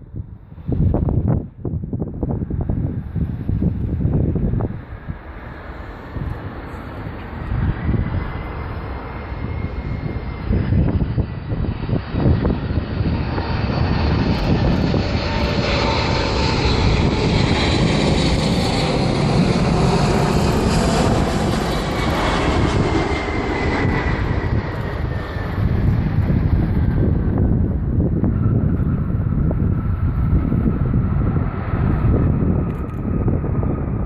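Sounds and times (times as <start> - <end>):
jet engines passing: 0.0 - 34.0.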